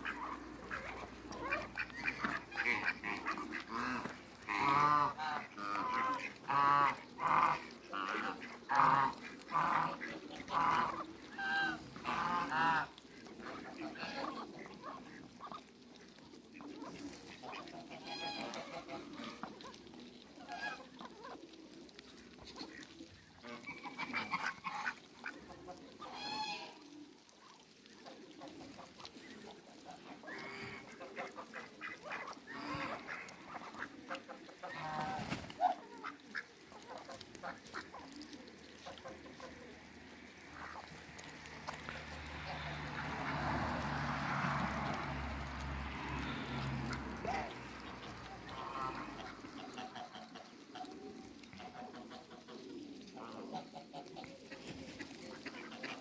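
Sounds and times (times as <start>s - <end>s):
geese honking: 0.0s - 15.8s, 16.5s - 21.6s, 22.2s - 26.9s, 27.5s - 56.0s.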